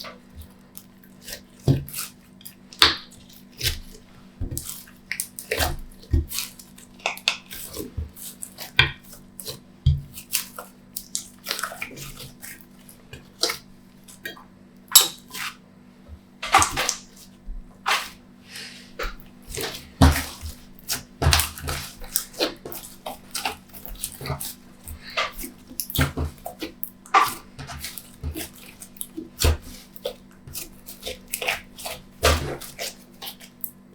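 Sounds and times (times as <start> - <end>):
slime squelching by hand: 0.0 - 15.6, 16.4 - 33.9.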